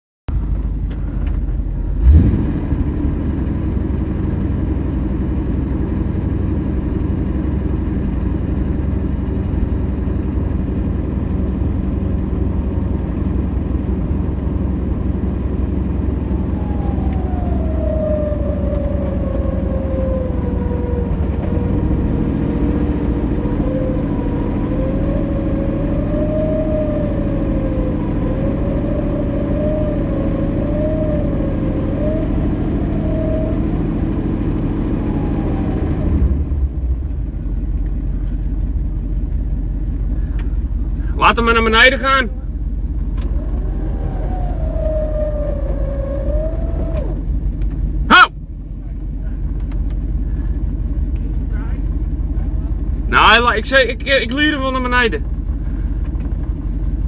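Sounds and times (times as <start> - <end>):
engine running: 0.3 - 57.0
winch whine: 0.3 - 57.0.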